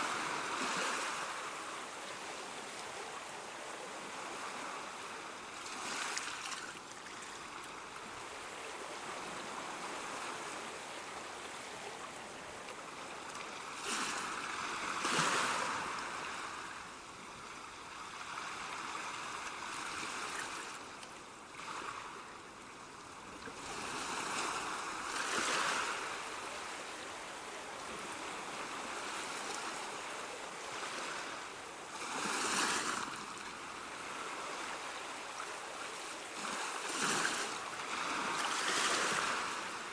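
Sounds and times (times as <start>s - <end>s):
hiss of surf: 0.0s - 6.5s, 7.5s - 20.9s, 23.6s - 39.9s
ocean waves breaking: 0.0s - 16.9s, 23.6s - 39.9s.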